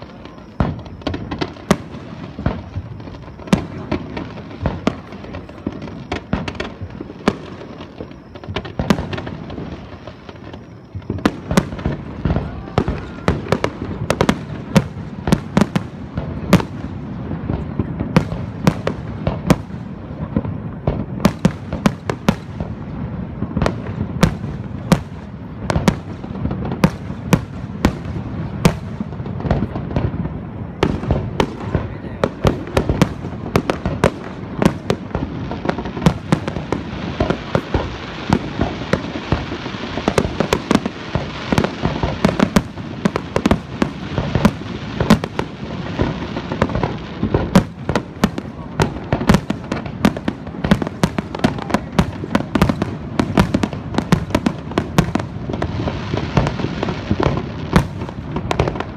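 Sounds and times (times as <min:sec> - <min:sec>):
firework crackling: 0:00.0 - 0:58.9
fireworks bursting: 0:00.0 - 0:58.9.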